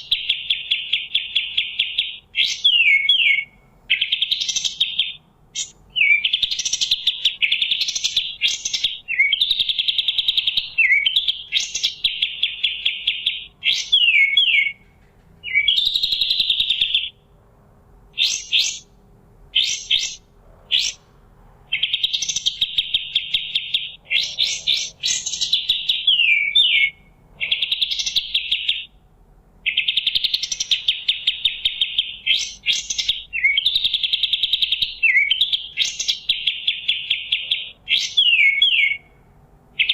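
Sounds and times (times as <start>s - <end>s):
songbird singing buzzy trills: 0.0s - 17.4s, 18.1s - 29.0s, 29.6s - 39.9s.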